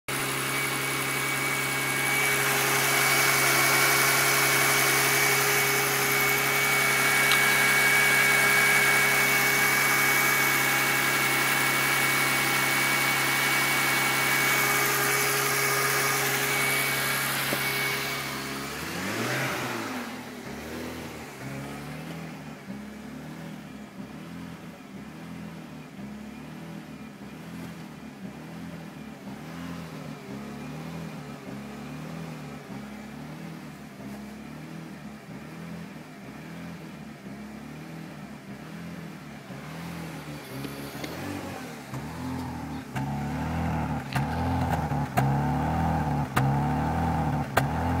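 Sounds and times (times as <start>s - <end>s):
car engine idling unevenly: 0.0s - 48.0s.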